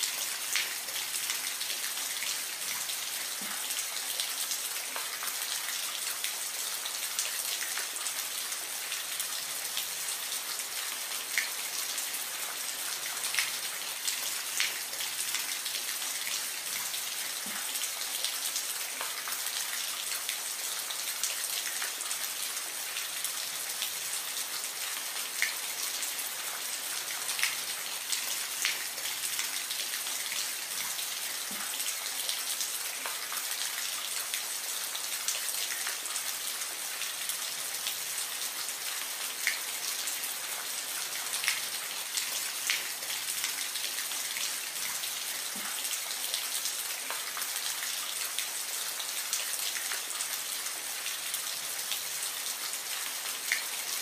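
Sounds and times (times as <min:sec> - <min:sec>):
gentle rain falling: 0:00.0 - 0:54.0.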